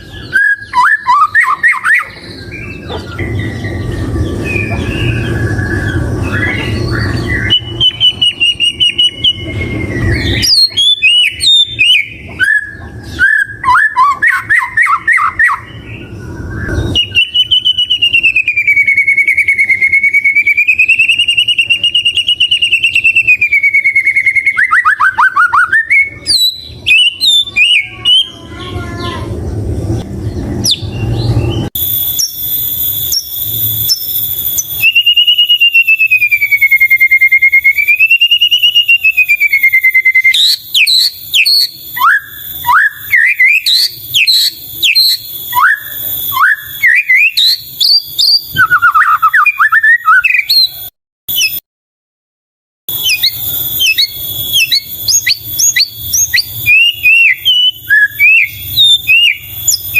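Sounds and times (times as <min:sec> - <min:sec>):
bird wavering whistle: 0:00.0 - 0:28.4, 0:30.6 - 0:51.6, 0:52.9 - 0:59.9
bird chirps and trills: 0:00.0 - 0:51.6, 0:52.9 - 0:59.9.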